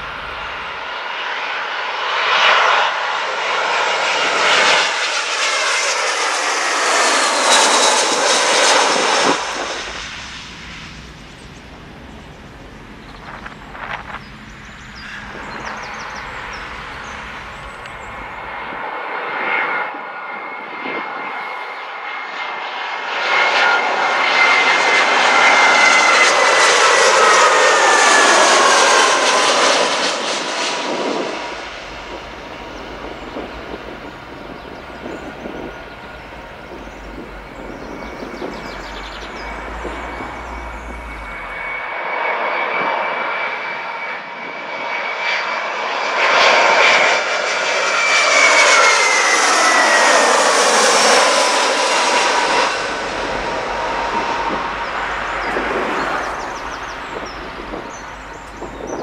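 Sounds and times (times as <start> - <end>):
distant jet engine noise: 0.0 - 59.0
jet airliner passing overhead: 0.0 - 59.0.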